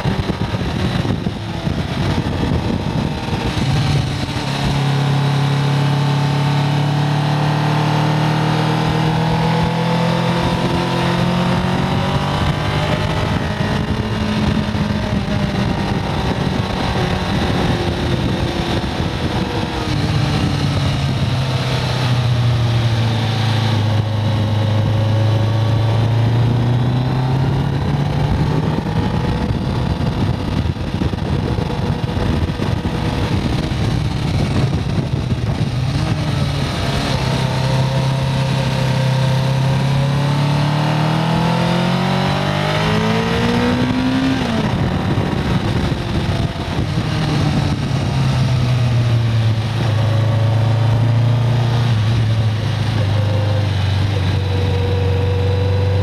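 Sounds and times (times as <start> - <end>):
motorcycle engine pulling uphill: 0.0 - 56.0
wind noise on microphone: 0.0 - 56.0.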